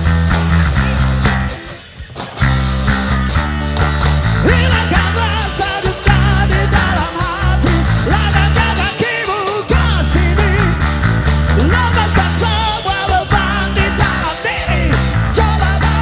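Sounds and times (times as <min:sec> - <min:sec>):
live rock and roll band: 0:00.0 - 0:16.0.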